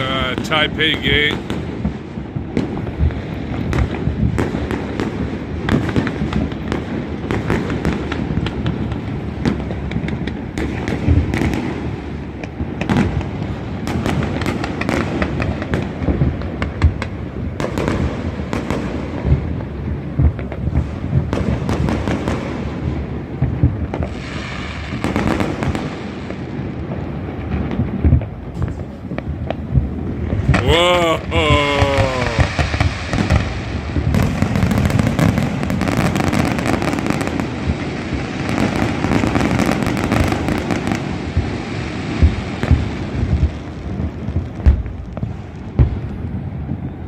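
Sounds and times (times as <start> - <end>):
hissing crackle: 0.0 - 46.3
fireworks booming: 0.0 - 47.0
fireworks cracking and popping: 0.0 - 47.0.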